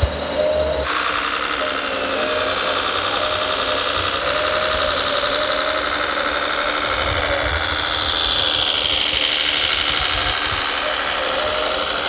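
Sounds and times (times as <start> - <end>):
electric motor and gearbox whine: 0.0 - 12.0.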